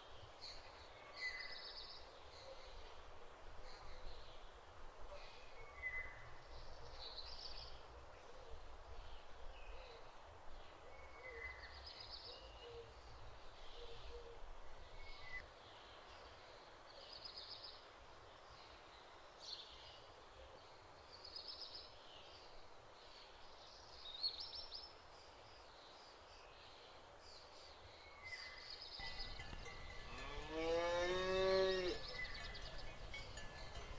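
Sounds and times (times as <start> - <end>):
birds singing faintly: 0.0 - 33.9.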